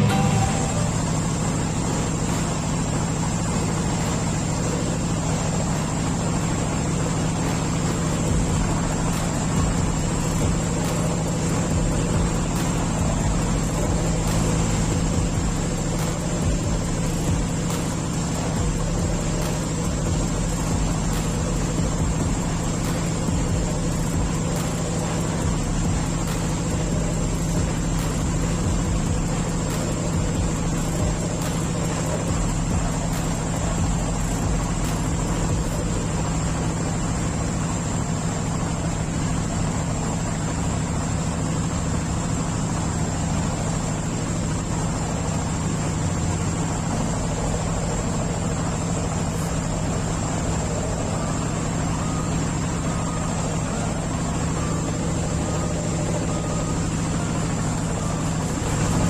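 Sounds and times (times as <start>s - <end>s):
boat engines humming: 0.0s - 59.0s.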